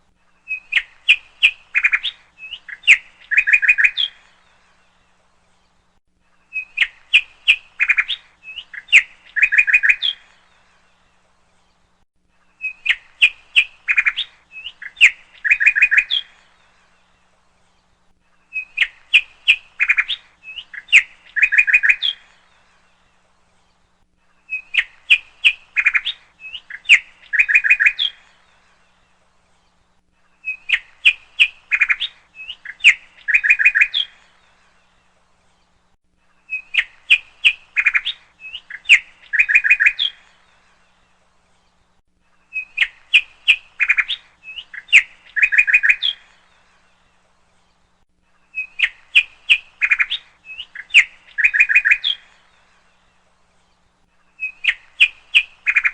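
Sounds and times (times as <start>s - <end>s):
songbird singing chirps and trill: 0.0s - 55.9s.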